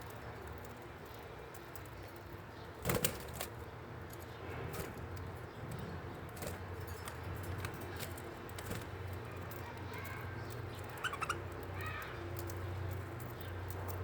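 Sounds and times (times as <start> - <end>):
birds clicking and scratching in cage: 0.0 - 14.0.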